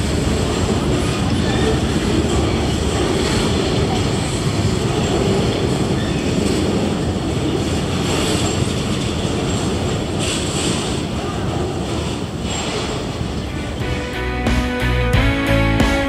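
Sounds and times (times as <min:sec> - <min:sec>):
train wheels rumbling on rails: 0:00.0 - 0:14.1.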